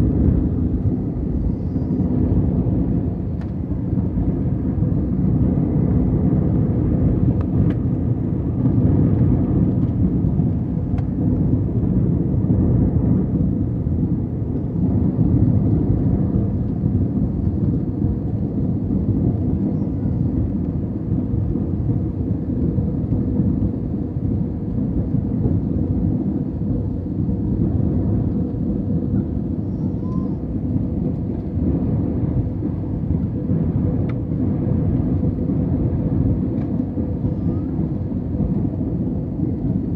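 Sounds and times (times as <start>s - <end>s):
faint constant hum: 0.0s - 39.9s
jet engines and airflow rumbling: 0.0s - 39.9s.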